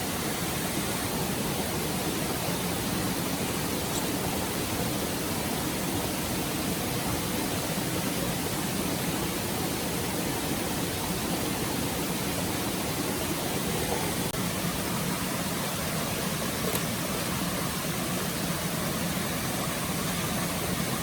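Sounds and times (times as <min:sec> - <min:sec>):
stream rushing water: 0:00.0 - 0:21.0.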